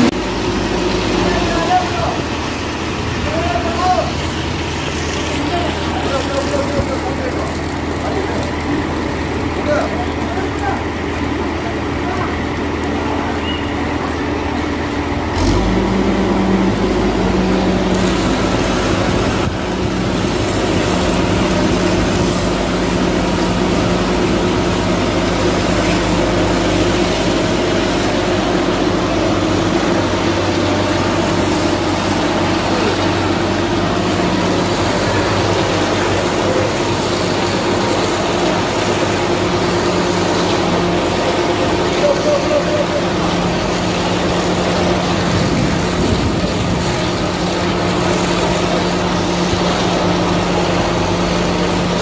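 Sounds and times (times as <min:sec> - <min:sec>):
concrete pouring down chute: 0:00.0 - 0:52.0
diesel truck engine running: 0:00.0 - 0:52.0.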